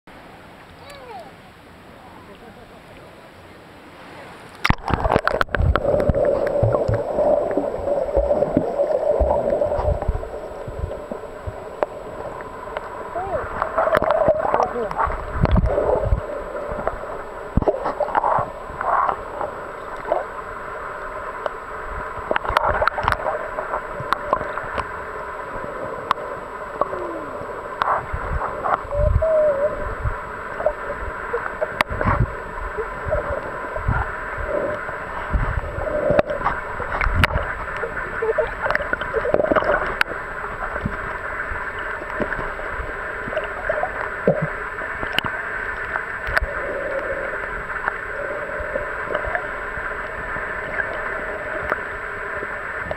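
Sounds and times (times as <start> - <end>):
underwater gurgling and sloshing: 0.1 - 52.9.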